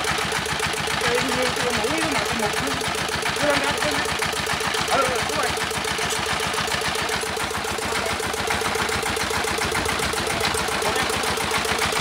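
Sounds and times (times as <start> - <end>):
small engine chugging steadily: 0.0 - 12.0.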